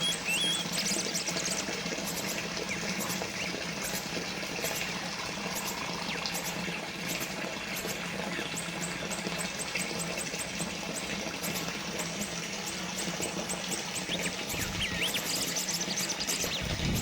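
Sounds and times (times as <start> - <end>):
water fountain trickling and splashing: 0.0 - 17.0.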